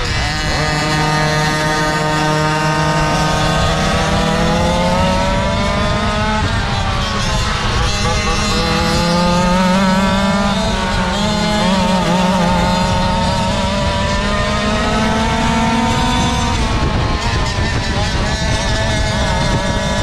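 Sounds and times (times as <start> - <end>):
small two-stroke engines running: 0.0 - 20.0.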